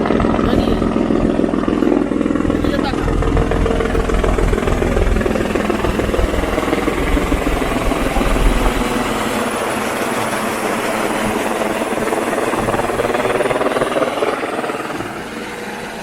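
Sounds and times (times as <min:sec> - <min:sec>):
deep rumble: 0:00.0 - 0:16.0
helicopter rotor chopping: 0:00.0 - 0:16.0.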